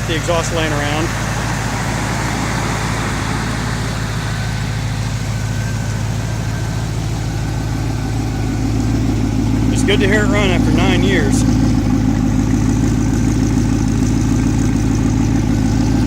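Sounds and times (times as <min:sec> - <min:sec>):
v eight engine idling: 0:00.0 - 0:16.0.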